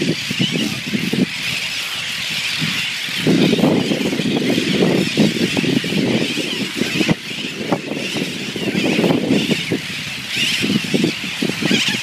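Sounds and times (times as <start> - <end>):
high-pitched bird babble: 0.0 - 12.0
seabirds croaking: 0.0 - 12.0.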